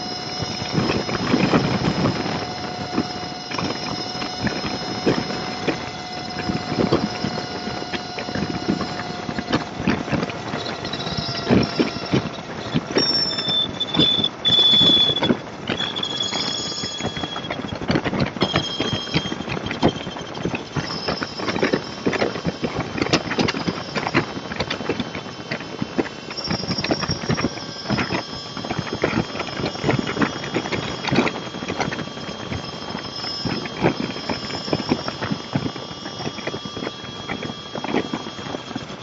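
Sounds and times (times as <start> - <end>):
rapid rattling clicks: 0.0 - 39.0
thin high-pitched squeals: 0.0 - 39.0.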